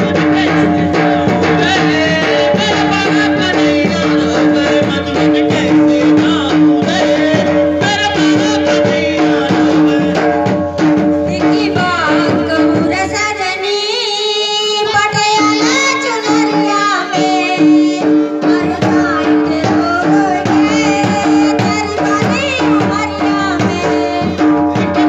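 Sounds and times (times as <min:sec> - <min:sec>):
person singing: 0:00.0 - 0:10.6, 0:11.2 - 0:25.0
steady drum beat: 0:00.0 - 0:25.0.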